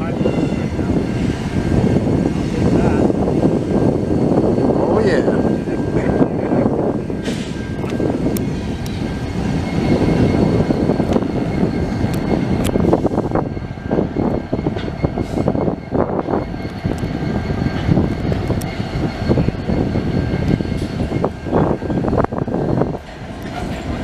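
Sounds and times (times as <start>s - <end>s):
diesel locomotive engine rumble: 0.0s - 24.0s
wheels clacking on rails: 0.0s - 24.0s.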